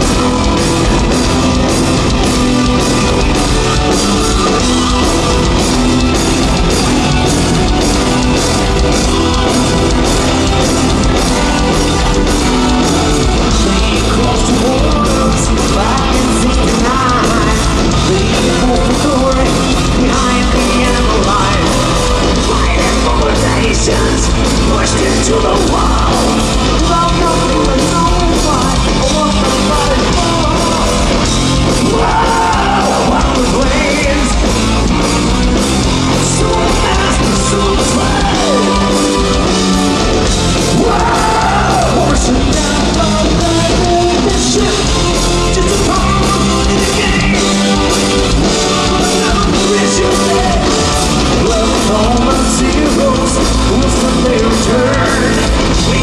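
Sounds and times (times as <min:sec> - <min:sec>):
distorted electric guitars: 0:00.0 - 0:56.0
drum beat: 0:00.0 - 0:56.0
person singing: 0:00.0 - 0:56.0.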